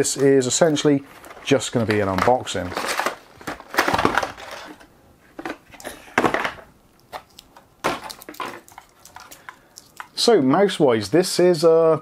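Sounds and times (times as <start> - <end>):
packaging rustling and scraping: 0.0 - 10.1.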